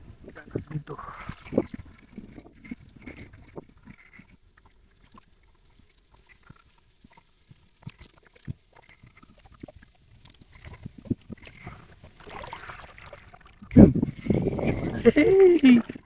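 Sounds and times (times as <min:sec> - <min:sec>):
sea water lapping: 0:00.4 - 0:16.0.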